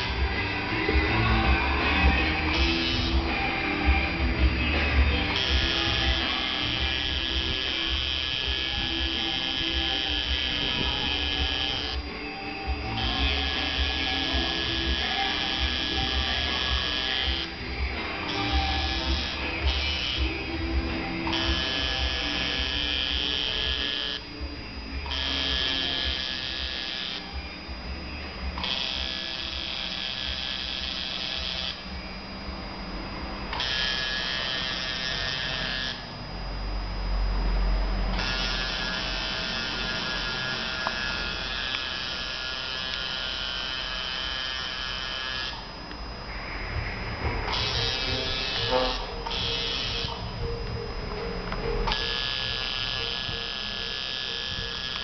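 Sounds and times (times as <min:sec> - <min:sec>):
tattoo machine buzzing: 0:00.0 - 0:55.0.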